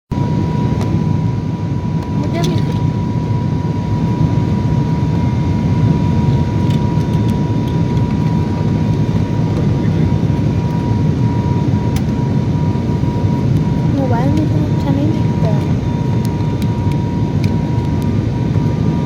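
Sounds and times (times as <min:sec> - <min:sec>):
airliner engines and airflow rushing: 0:00.1 - 0:19.0
thin steady whine: 0:00.1 - 0:19.0.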